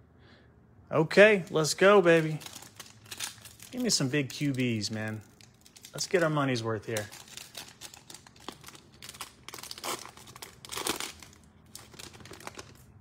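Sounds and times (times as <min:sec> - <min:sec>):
foil wrapper crinkling: 0:01.4 - 0:13.0.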